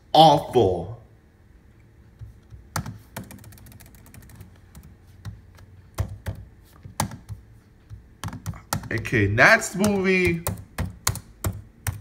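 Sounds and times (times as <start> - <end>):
laptop keyboard typing: 2.1 - 12.0.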